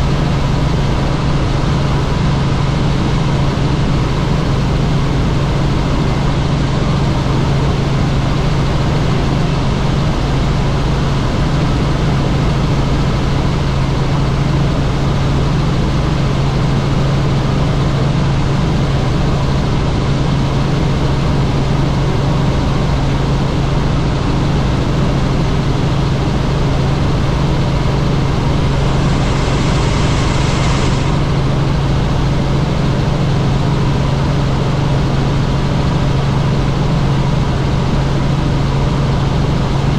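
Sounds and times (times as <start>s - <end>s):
helicopter engine and rotor hum: 0.0s - 39.9s.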